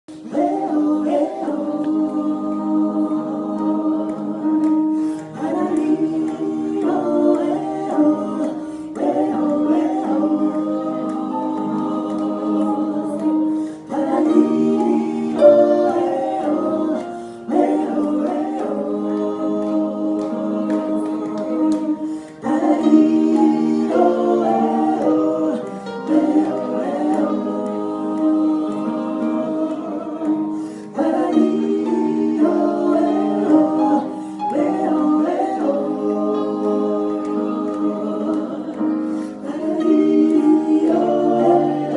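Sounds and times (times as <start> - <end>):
choir singing in harmony: 0.1 - 41.9.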